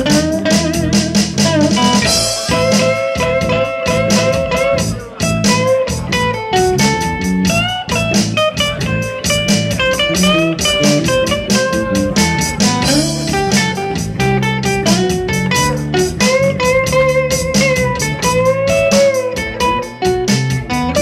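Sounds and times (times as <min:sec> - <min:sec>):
bass guitar: 0:00.0 - 0:21.0
electric guitar with string bends: 0:00.0 - 0:21.0
steady drums: 0:00.0 - 0:21.0.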